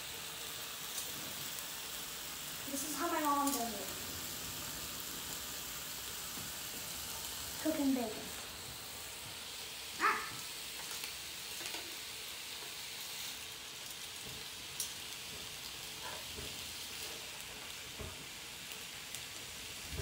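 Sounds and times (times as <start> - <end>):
bacon sizzling on a grill: 0.0 - 20.0.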